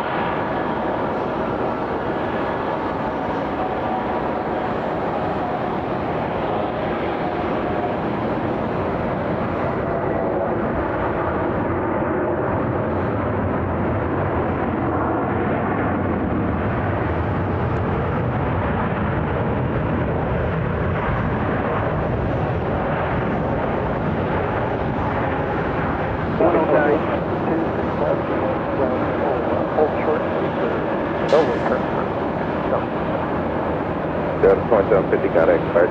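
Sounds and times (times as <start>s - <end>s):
jet engine noise: 0.0s - 35.9s.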